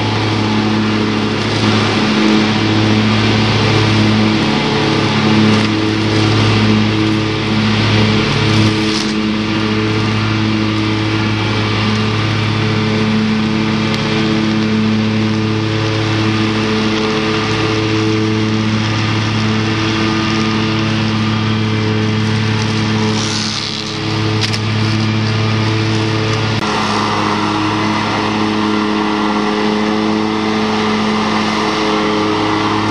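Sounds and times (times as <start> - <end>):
mower engine running: 0.0 - 32.9
trimmer cutting grass hiss: 0.0 - 32.9.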